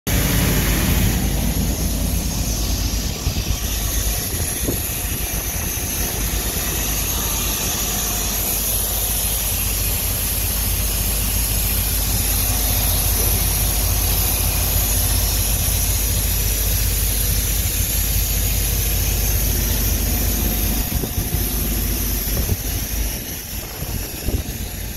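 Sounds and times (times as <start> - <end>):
highway traffic rumble: 0.1 - 24.9
high hiss: 0.2 - 24.9.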